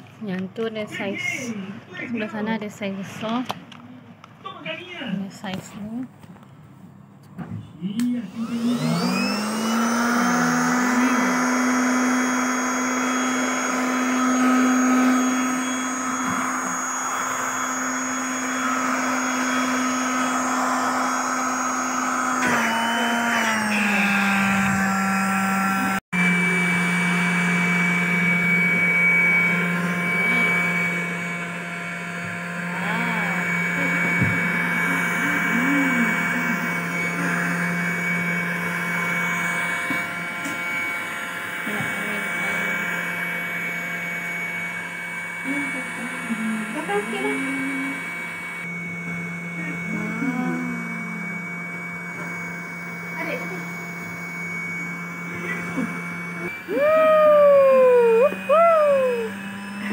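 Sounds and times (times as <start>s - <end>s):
electric air pump humming: 7.8s - 59.9s.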